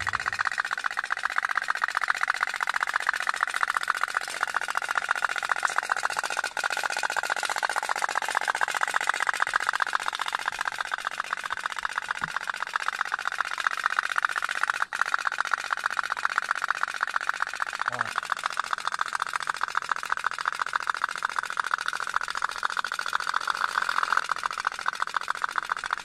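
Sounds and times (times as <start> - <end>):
toy steam boat putt-putt: 0.0 - 26.0.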